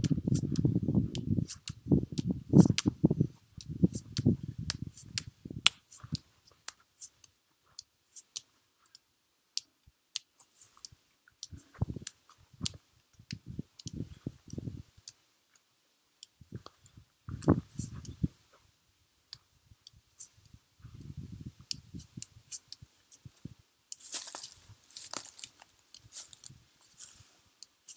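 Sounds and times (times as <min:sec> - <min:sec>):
sharp dry clicks: 0:00.0 - 0:03.0, 0:03.6 - 0:18.2, 0:19.3 - 0:27.9.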